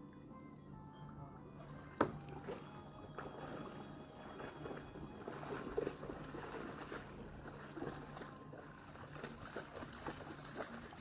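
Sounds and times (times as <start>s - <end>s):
faint low hum: 0.0s - 11.0s
small ripples lapping: 1.6s - 11.0s.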